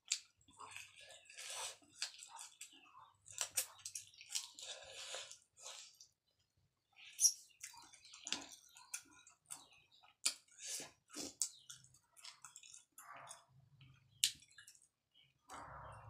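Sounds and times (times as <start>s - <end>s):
person chewing and eating: 0.0s - 15.0s.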